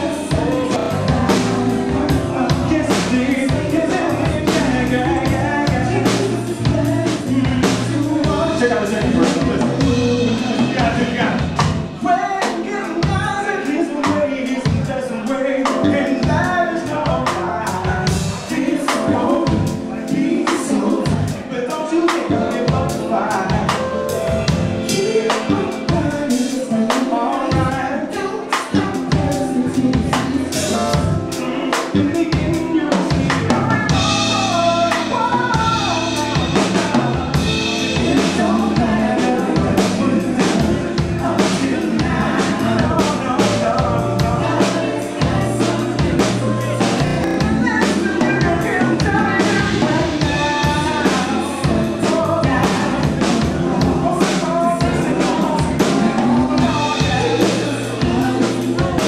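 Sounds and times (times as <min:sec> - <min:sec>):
man singing: 0:00.0 - 0:59.0
soul band playing: 0:00.0 - 0:59.0.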